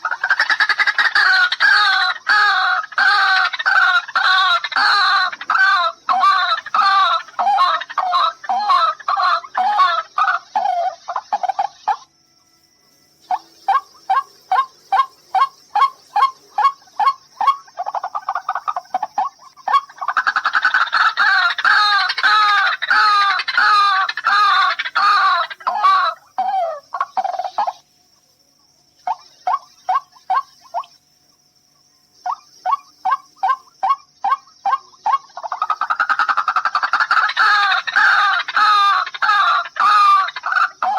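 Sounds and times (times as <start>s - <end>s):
waterhen calling: 0.0s - 12.1s, 13.2s - 27.9s, 29.0s - 31.0s, 32.2s - 40.9s.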